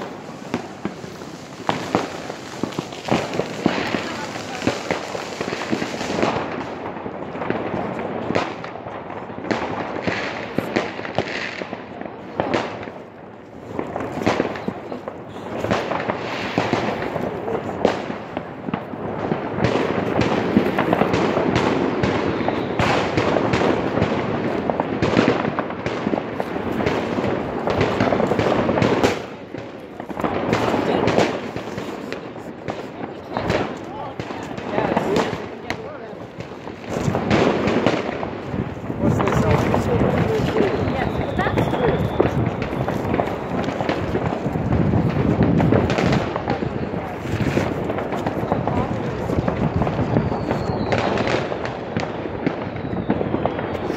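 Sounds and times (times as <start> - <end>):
firecrackers crackling: 0.0 - 53.9
fireworks bangs and pops: 0.0 - 53.9.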